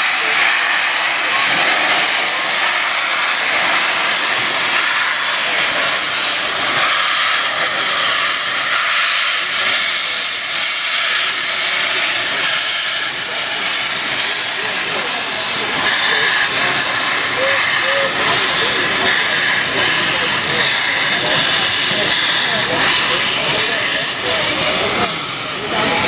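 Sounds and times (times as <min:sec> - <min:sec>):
loud hiss of steam: 0:00.0 - 0:26.0
steam locomotive pulling away: 0:00.0 - 0:26.0.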